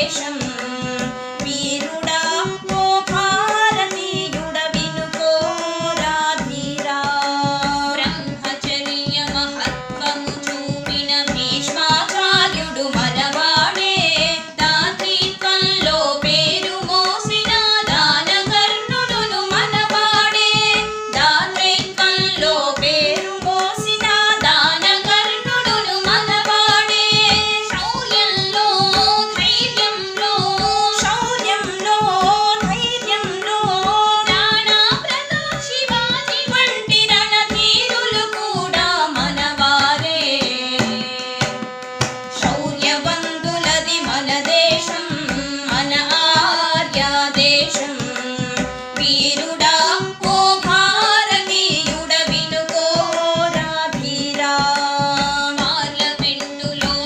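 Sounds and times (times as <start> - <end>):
harmonium notes: 0.0 - 57.0
tabla strokes: 0.0 - 57.0
women singing: 0.0 - 57.0.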